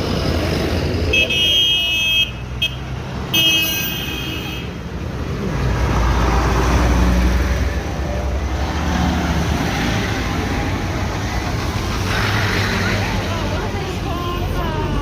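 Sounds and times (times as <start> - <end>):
tractors and trucks driving past: 0.0 - 15.0.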